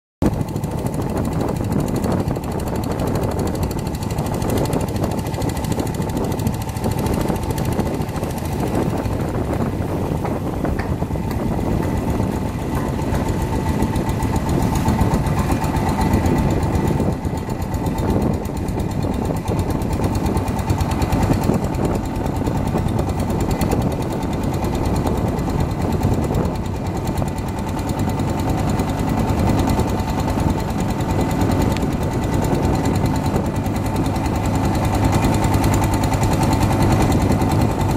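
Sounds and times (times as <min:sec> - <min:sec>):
boat engine chugging: 0:00.2 - 0:37.9.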